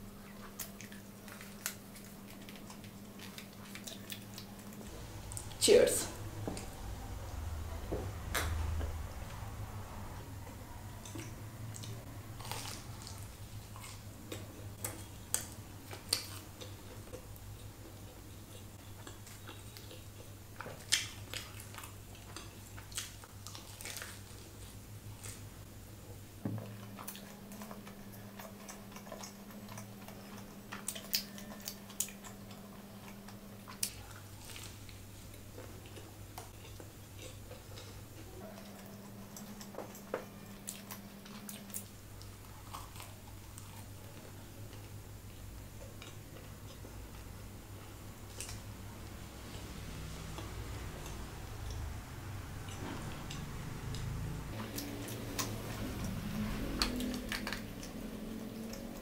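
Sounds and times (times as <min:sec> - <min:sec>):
person chewing pizza: 0:00.0 - 0:05.6, 0:10.2 - 0:59.0
low steady hum: 0:00.0 - 0:59.0.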